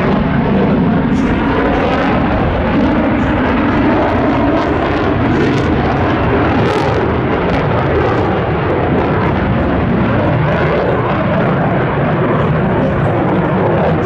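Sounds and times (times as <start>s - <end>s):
fighter jet noise: 0.0s - 14.0s.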